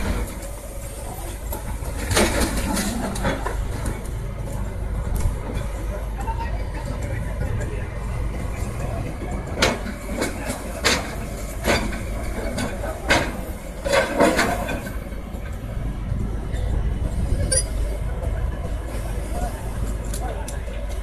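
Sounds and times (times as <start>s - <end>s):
excavator diesel engine rumbling: 0.0s - 21.0s.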